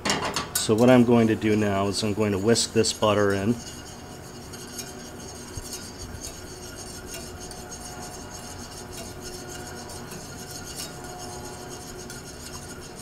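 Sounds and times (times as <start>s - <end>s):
wire whisk scraping a saucepan: 0.7s - 13.0s.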